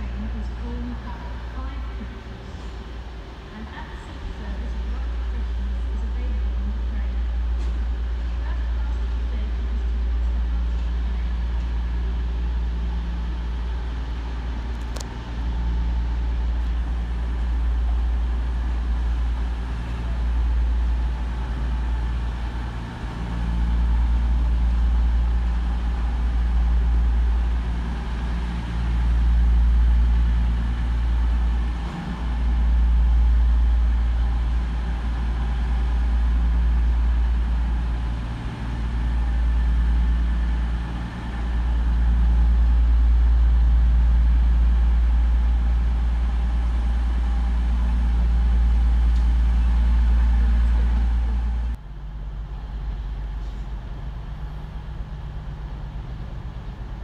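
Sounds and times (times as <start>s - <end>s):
diesel train engine rumbling: 0.0s - 57.0s.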